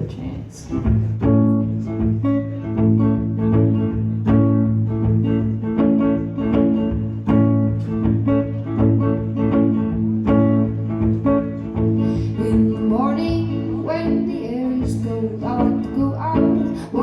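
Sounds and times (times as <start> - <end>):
guitar plucked notes: 0.6 - 17.0.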